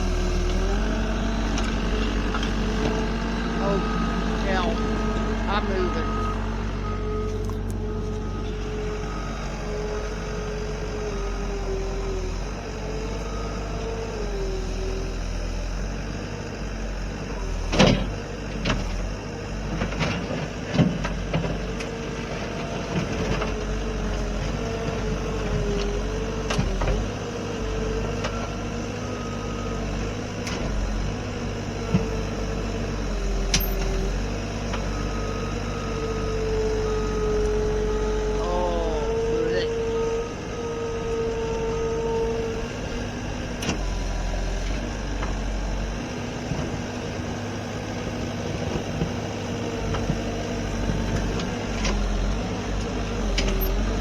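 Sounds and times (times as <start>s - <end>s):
machine engine droning: 0.0s - 54.0s.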